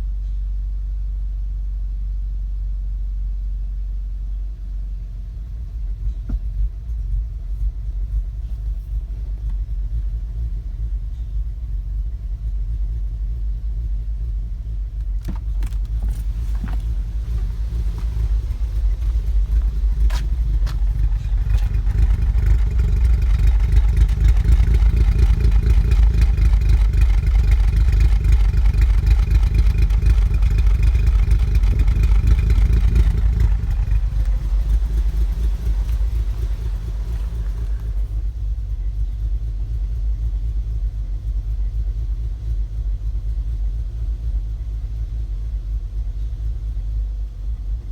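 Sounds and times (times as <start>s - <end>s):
car engine idling roughly: 4.5s - 47.9s
higher hum: 5.0s - 45.7s.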